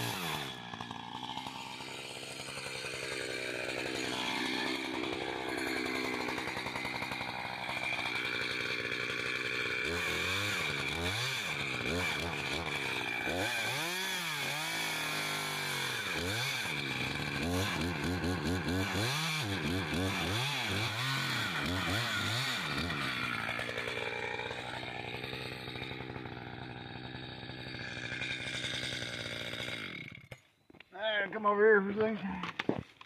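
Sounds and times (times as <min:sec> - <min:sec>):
chainsaw cutting tree: 0:00.0 - 0:30.4.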